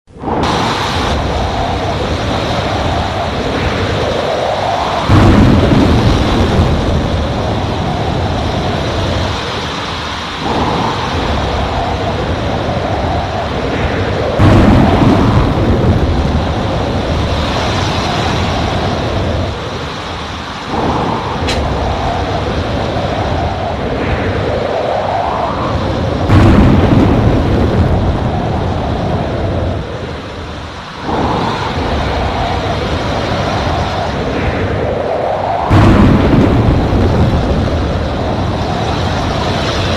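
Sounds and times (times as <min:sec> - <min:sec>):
wind gusting and whistling: 0:00.0 - 0:39.9
deep rumbling thunder: 0:00.1 - 0:09.8, 0:10.4 - 0:19.9, 0:20.6 - 0:39.9
rain: 0:00.1 - 0:39.9.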